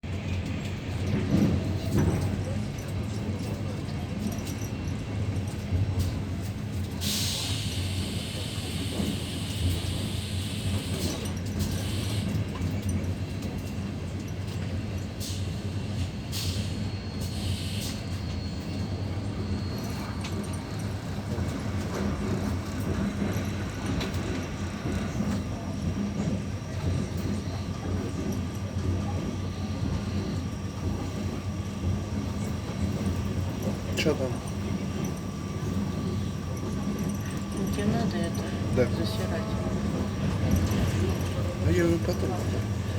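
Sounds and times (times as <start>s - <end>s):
train wheels rumbling: 0.0s - 42.9s.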